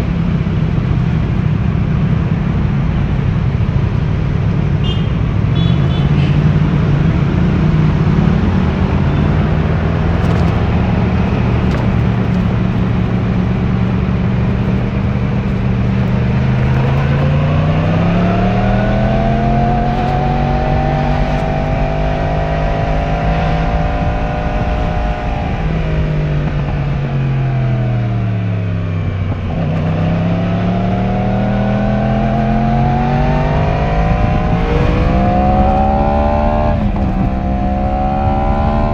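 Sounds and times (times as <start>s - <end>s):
motorcycle engine revving: 4.8s - 38.9s.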